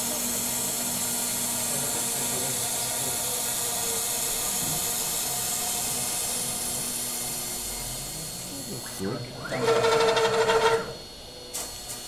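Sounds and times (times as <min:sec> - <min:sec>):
router spindle motor hissing: 0:00.0 - 0:11.3.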